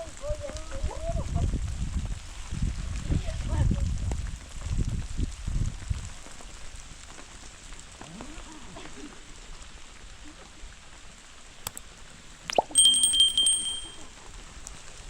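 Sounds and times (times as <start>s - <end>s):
steady rain falling: 0.0s - 12.4s, 14.1s - 15.0s.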